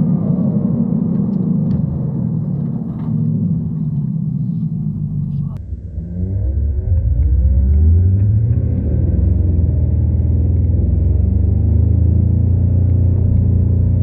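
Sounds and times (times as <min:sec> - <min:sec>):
slowed engine deep rumble: 0:00.0 - 0:14.0.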